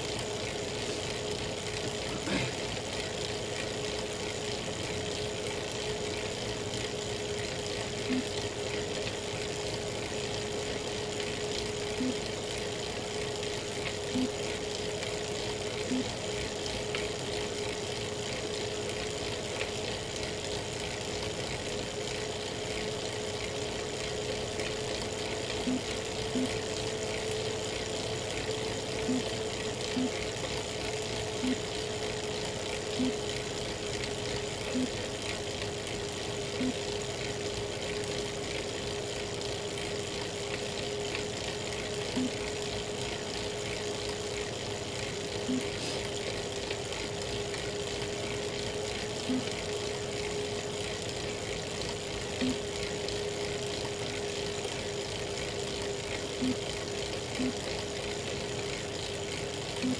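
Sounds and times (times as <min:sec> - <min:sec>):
bike trainer whirring: 0:00.0 - 0:59.9.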